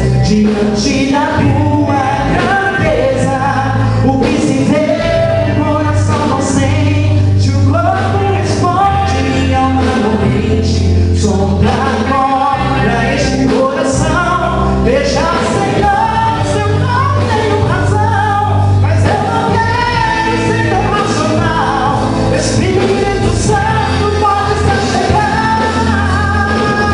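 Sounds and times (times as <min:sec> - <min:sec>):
gospel band singing and playing: 0:00.0 - 0:26.9.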